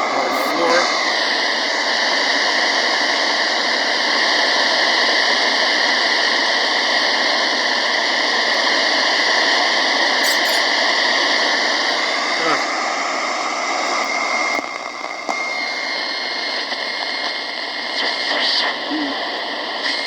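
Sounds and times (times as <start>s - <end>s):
faint radio crackle: 0.0s - 20.0s
radio static hiss: 0.0s - 20.0s.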